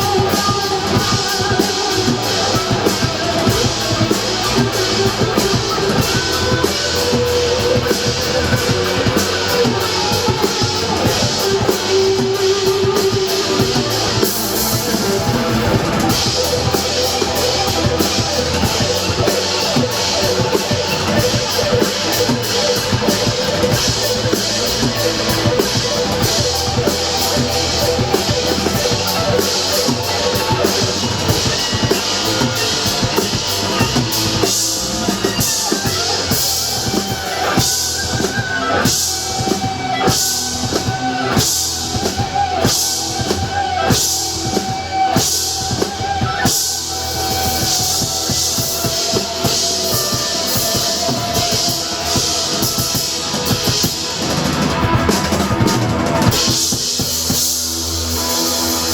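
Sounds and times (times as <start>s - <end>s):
live rock band playing: 0.0s - 58.9s.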